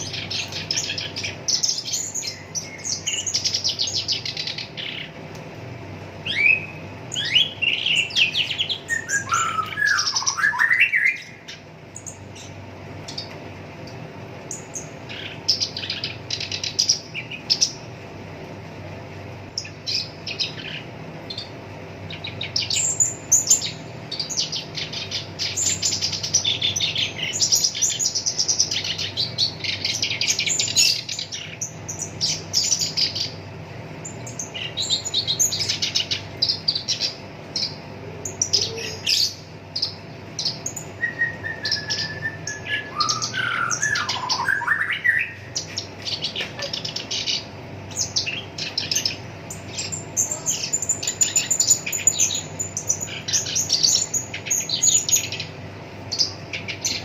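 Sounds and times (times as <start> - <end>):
reed warbler chattering song: 0.0 - 57.0.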